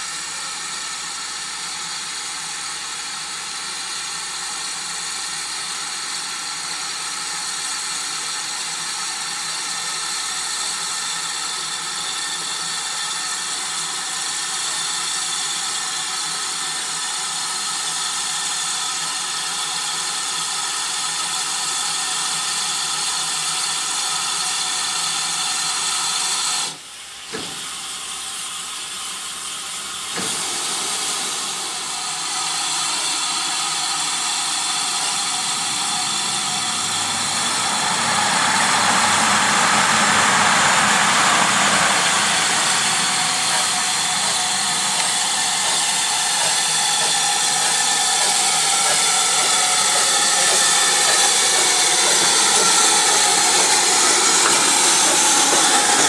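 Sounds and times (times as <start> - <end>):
locomotive steam hissing: 0.0 - 56.0.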